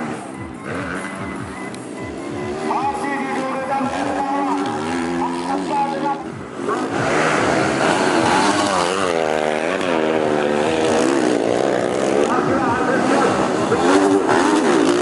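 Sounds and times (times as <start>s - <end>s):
dirt bike engines racing: 0.0s - 15.0s.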